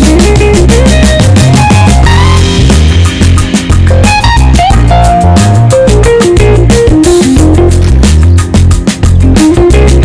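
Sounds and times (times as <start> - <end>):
music with bass guitar and drums: 0.0 - 10.0.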